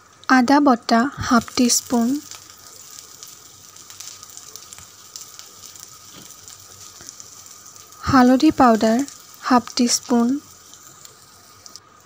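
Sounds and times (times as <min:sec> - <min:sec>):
oil sizzling in pan: 0:00.0 - 0:12.0.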